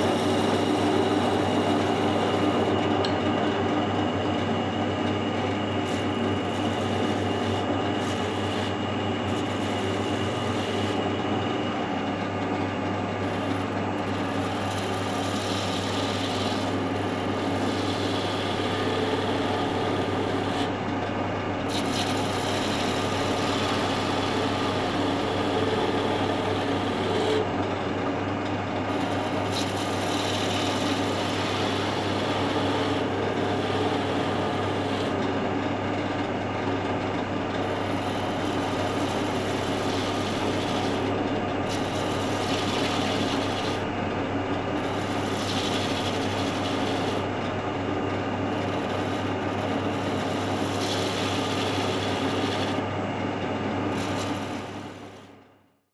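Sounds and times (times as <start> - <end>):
chisel shaving wood: 0.0 - 2.8, 5.3 - 21.0, 21.6 - 43.9, 44.6 - 52.9, 53.8 - 55.4
wood lathe humming: 0.0 - 55.4.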